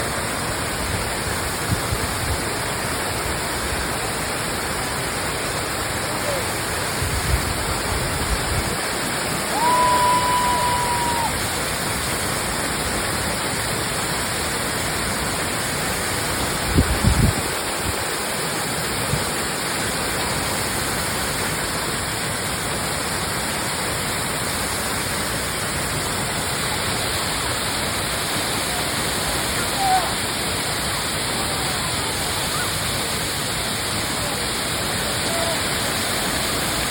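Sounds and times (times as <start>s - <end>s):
waterfall roaring: 0.0s - 36.9s.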